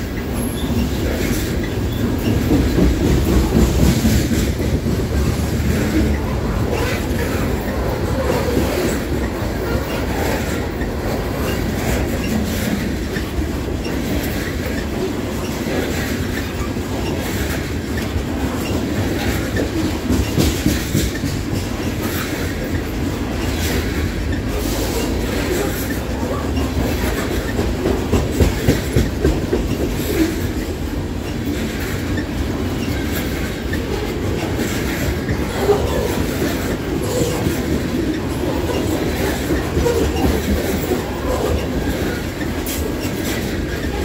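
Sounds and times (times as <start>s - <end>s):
freight train wheels rumbling: 0.0s - 44.0s
wheels clacking over rail joints: 0.0s - 44.0s.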